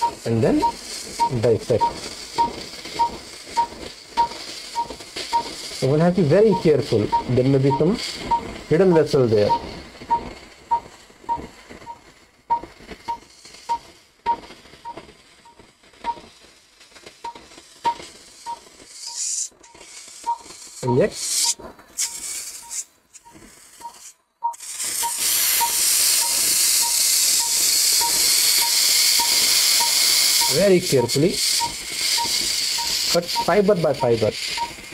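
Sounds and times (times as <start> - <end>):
patient monitor pulse beeps: 0.0 - 15.0, 17.3 - 19.2, 20.2 - 21.6, 22.6 - 34.8
loud steady hiss: 0.0 - 34.9.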